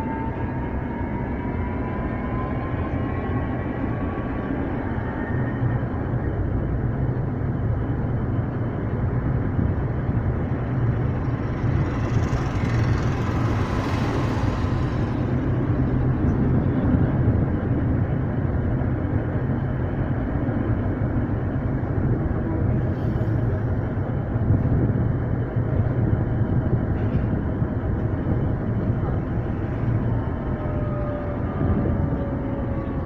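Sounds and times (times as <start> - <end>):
tram humming and rumbling: 0.0 - 33.0.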